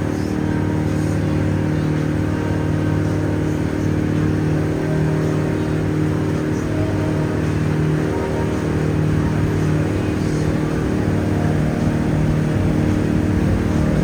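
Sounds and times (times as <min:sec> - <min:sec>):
ferry engine droning: 0:00.0 - 0:14.0.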